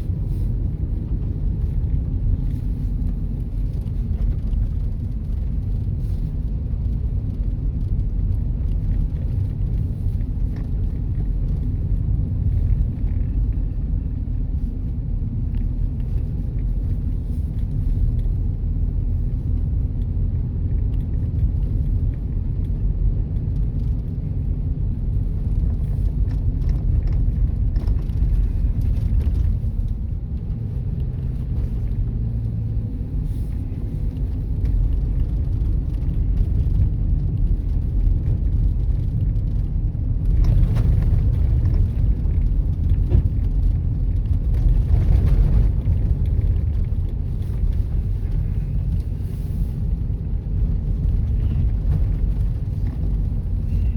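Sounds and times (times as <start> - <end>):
car driving rumble: 0.0 - 53.9
road and tyre noise: 0.0 - 53.9.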